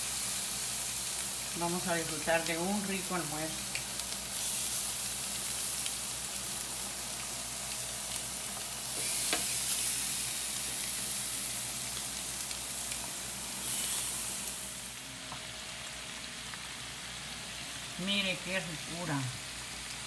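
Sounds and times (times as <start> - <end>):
shrimp sizzling on griddle: 0.0 - 20.0.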